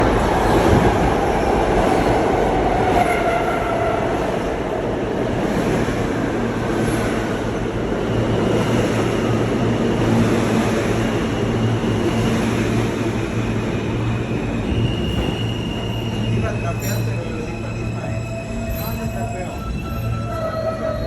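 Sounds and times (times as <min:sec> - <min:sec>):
rumble of wheels on rail: 0:00.0 - 0:21.0.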